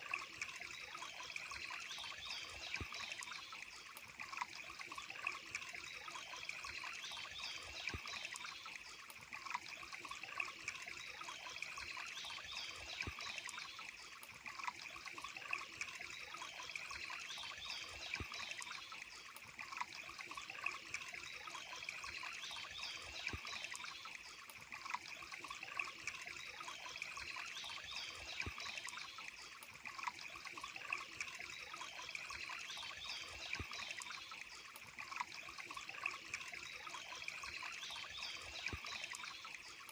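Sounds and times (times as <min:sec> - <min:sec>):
water drips and splashes: 0:00.0 - 0:39.9
water trickling and burbling: 0:00.0 - 0:39.9.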